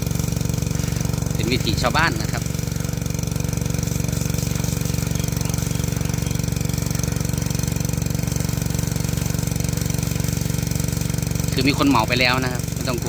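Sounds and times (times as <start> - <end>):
water pump engine running: 0.0 - 13.0.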